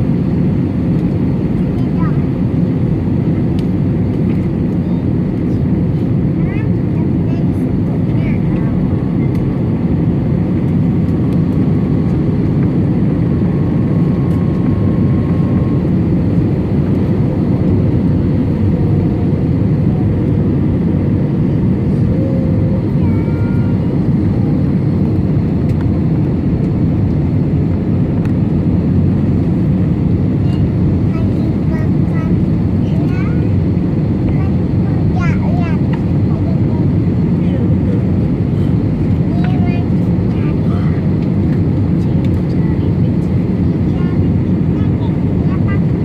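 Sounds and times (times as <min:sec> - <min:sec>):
airplane engine and airflow rumble: 0:00.0 - 0:46.0.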